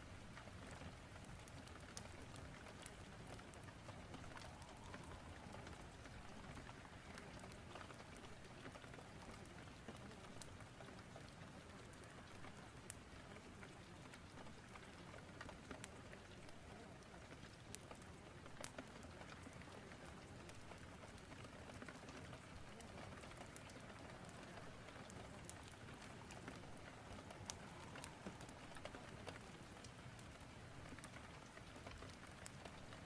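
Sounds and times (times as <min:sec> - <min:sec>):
faint steady rain: 0:00.0 - 0:33.0
wood fire crackling and popping: 0:00.0 - 0:33.0.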